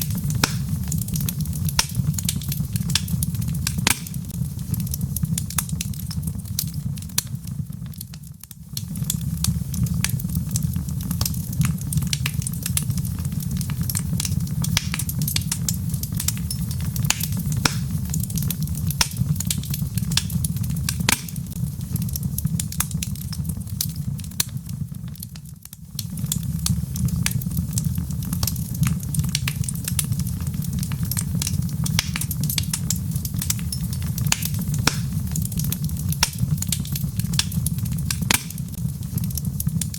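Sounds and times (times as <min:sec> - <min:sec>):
log fire crackling and popping: 0:00.0 - 0:39.9.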